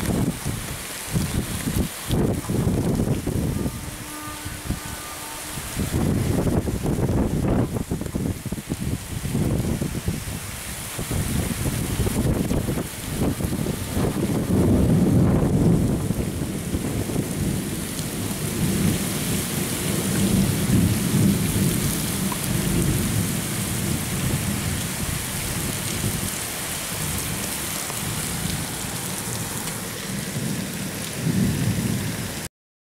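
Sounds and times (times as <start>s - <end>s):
wind buffeting microphone: 0.0s - 32.3s
wind hissing through trees: 0.0s - 32.5s.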